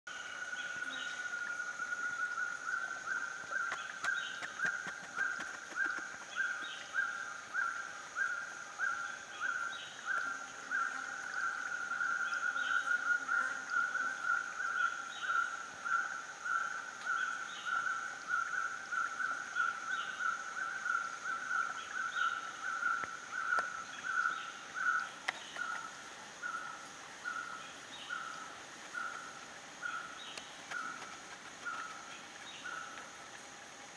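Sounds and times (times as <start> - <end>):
high insect drone: 0.1 - 33.9.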